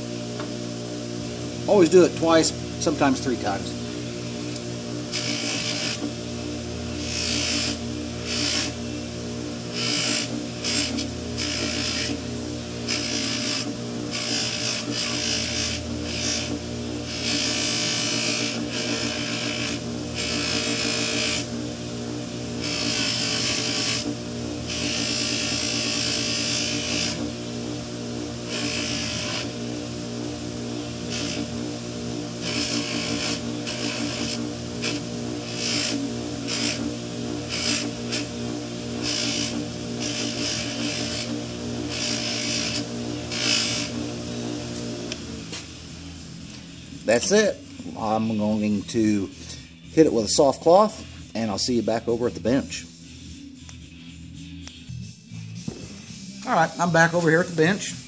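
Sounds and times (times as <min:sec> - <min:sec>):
bench buffer motor humming: 0:00.0 - 0:54.8, 0:55.6 - 0:58.0.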